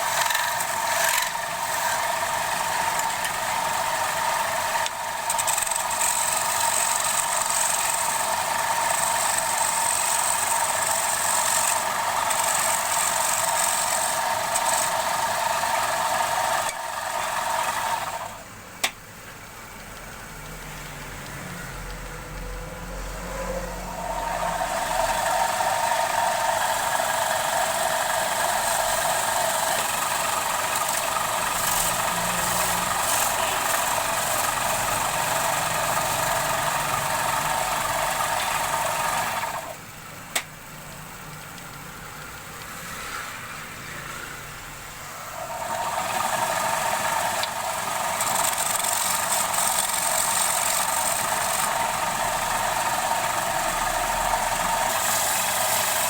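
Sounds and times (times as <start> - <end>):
lathe tool cutting wood: 0.0 - 18.4, 23.2 - 39.8, 45.1 - 56.0
wood lathe running: 0.0 - 18.4, 23.5 - 40.4, 45.0 - 56.0.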